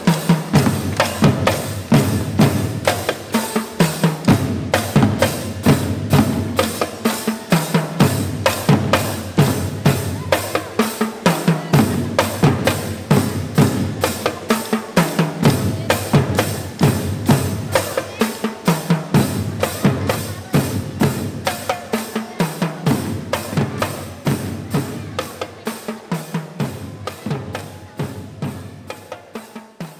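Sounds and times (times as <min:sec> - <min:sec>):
snare and bass drums beat: 0:00.0 - 0:29.9.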